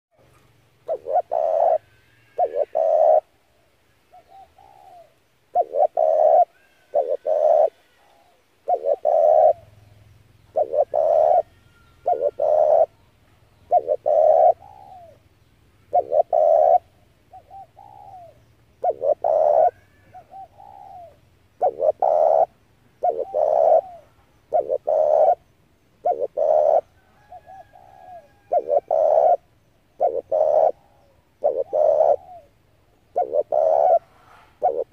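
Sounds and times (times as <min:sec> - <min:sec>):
dove cooing: 0:00.2 - 0:03.4, 0:04.1 - 0:34.9.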